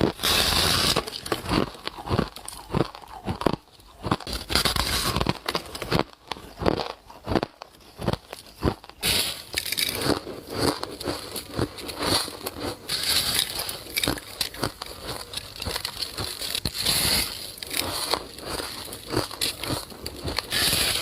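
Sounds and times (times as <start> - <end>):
ice being crunched: 0.0 - 21.0.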